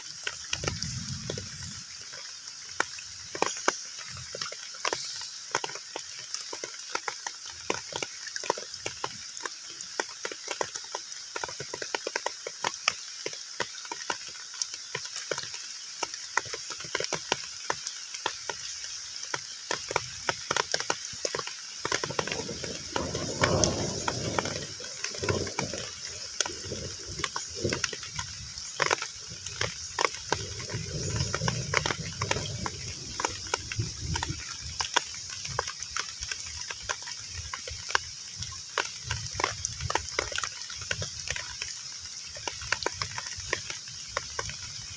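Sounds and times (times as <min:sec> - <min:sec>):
heavy rain on pond: 0:00.0 - 0:44.9.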